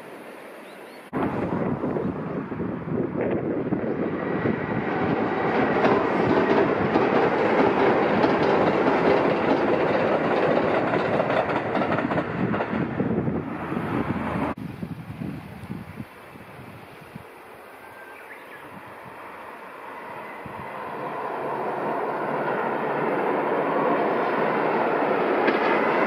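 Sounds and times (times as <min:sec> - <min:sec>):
train rumbling over viaduct: 0:01.1 - 0:14.6, 0:17.8 - 0:26.0.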